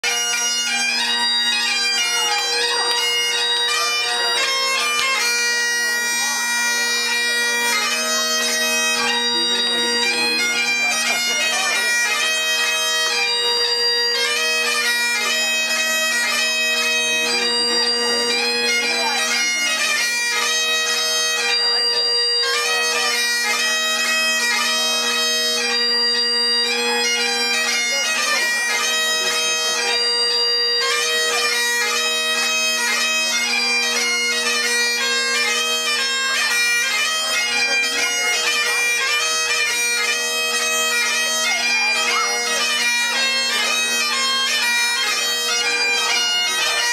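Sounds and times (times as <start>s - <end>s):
bagpipe dance tune: 0.0s - 46.9s.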